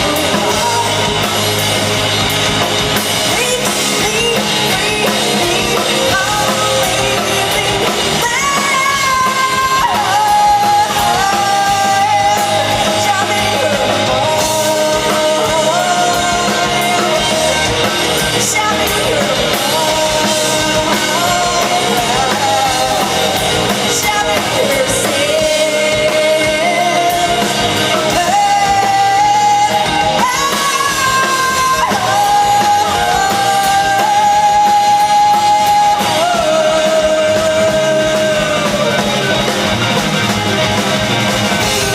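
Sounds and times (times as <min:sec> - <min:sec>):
live rock band playing: 0:00.0 - 0:41.9
singer holding long notes: 0:00.0 - 0:41.9.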